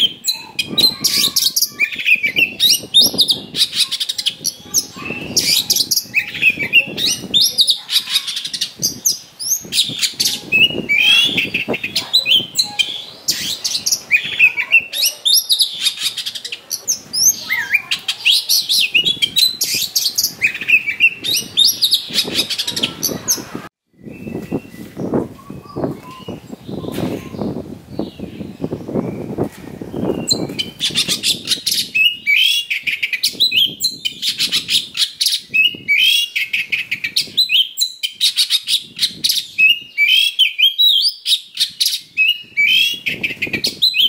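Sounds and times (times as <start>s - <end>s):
magpie-robin singing: 0.0s - 44.0s.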